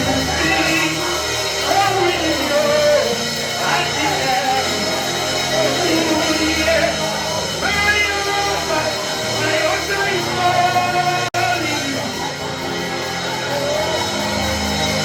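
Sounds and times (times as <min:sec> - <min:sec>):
person singing lead: 0:00.0 - 0:15.0
sustained instrumental backing: 0:00.0 - 0:15.0.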